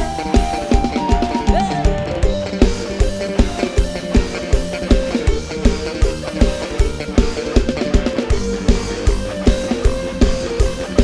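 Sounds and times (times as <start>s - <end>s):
live band playing dance music: 0.0s - 11.0s.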